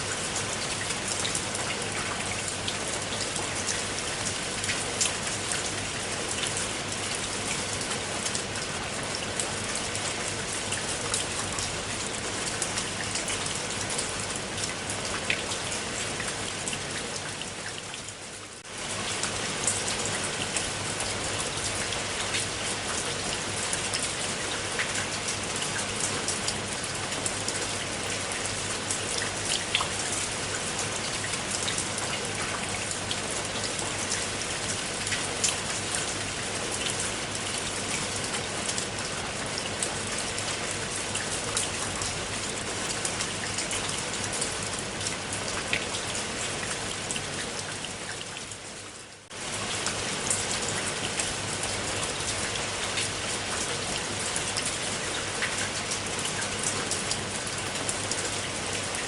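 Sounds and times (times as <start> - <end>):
rain drops ticking: 0.0 - 59.0.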